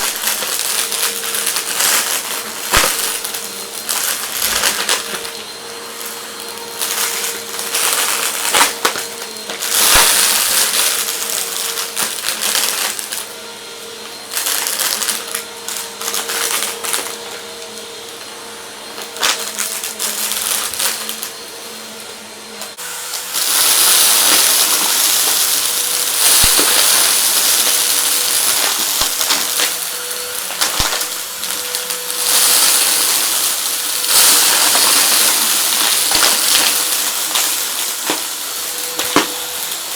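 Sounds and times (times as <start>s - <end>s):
debris rattling through vacuum: 0.0s - 18.3s, 22.8s - 39.9s
vacuum cleaner motor whine: 0.0s - 39.9s.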